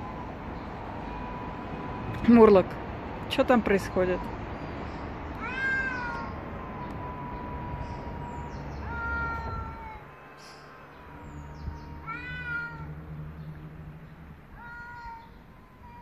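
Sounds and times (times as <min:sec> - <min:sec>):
cats yowling: 0:00.0 - 0:02.0, 0:04.0 - 0:13.3, 0:14.4 - 0:16.0.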